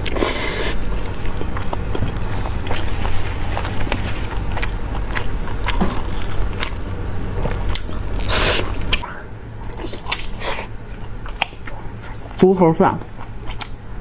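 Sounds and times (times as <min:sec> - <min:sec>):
chewing meat off bone: 0:00.0 - 0:14.0
steady low hum: 0:00.0 - 0:14.0.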